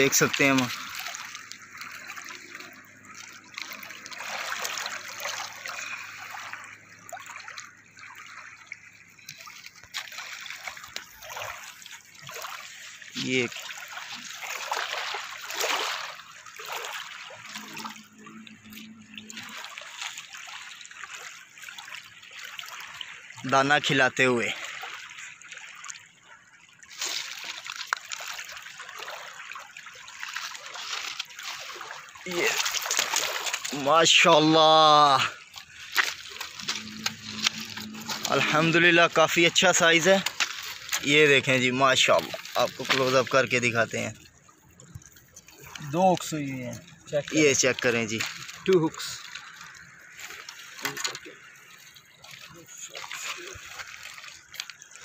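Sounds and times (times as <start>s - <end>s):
fish splashing in water: 0.0s - 23.4s, 24.5s - 43.6s, 44.2s - 55.0s
small waves lapping on stony shore: 0.0s - 55.0s.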